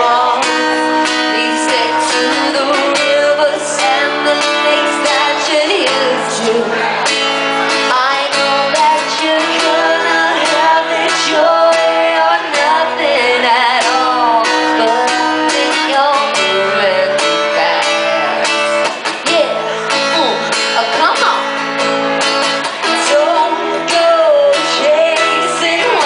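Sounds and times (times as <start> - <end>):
people singing: 0.0 - 19.6, 22.8 - 26.0
acoustic guitar strumming: 0.0 - 26.0.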